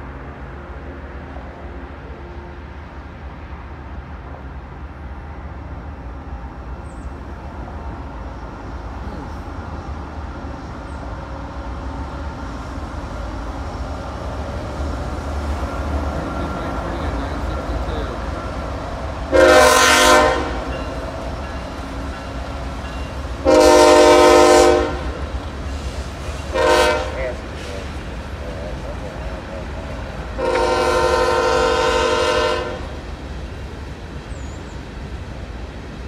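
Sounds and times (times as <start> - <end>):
diesel locomotives rumbling: 0.0 - 36.0.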